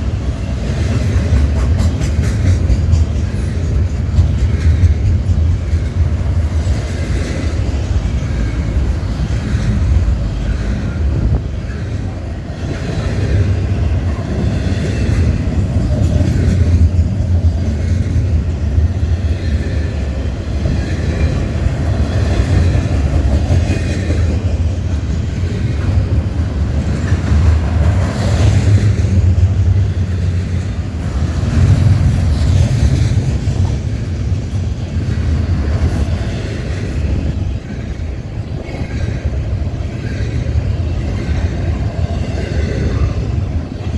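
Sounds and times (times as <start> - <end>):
freight train wheels rumbling on rail: 0.0 - 43.9.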